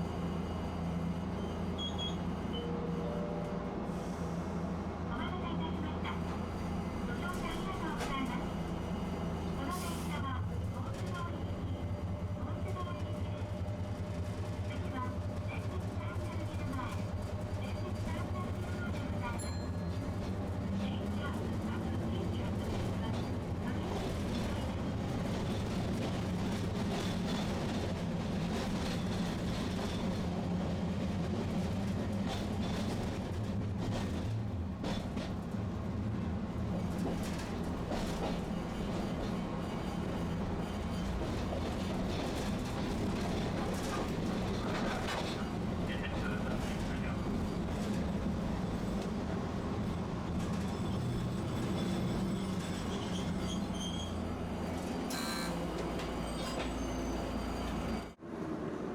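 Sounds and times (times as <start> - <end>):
streetcar motors and wheels hum: 0.0 - 58.9.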